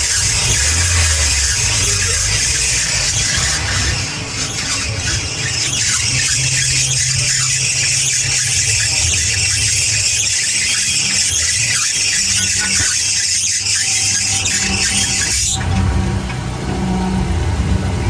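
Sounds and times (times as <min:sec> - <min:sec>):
engine hum: 0:00.0 - 0:18.0
fan belt squealing: 0:00.0 - 0:18.0.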